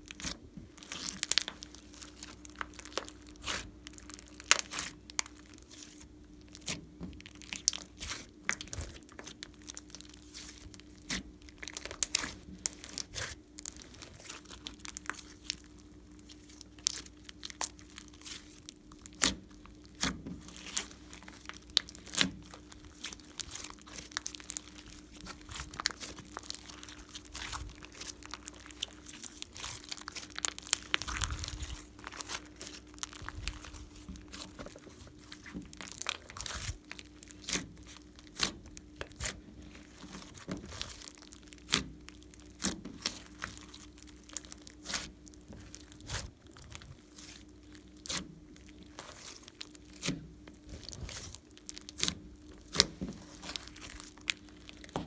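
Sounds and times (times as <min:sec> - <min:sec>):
slime crackling and popping: 0:00.0 - 0:55.0.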